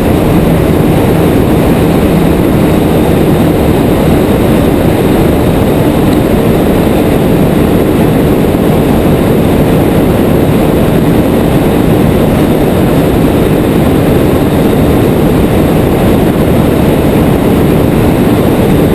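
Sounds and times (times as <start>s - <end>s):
boat motor drone: 0.0s - 18.9s
wind on microphone: 0.0s - 18.9s.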